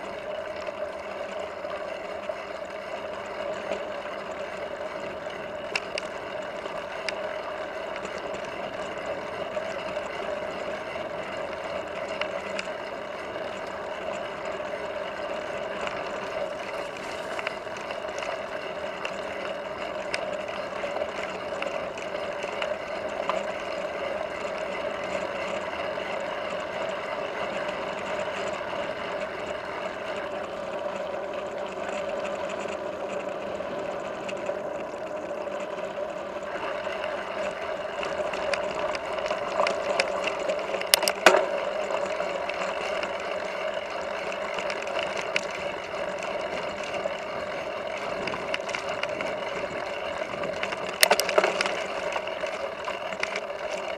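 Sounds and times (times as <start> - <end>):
bike rattling: 0.0 - 53.9
bike tyres rolling on gravel: 0.0 - 53.9.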